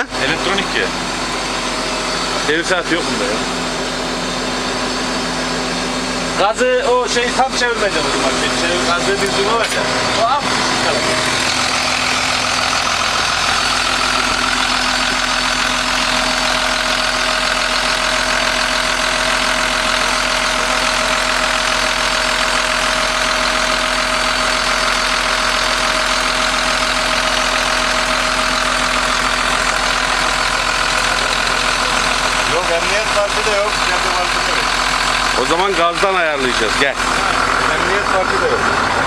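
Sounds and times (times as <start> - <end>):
constant whine: 0.0 - 39.0
diesel engine running: 0.0 - 39.0.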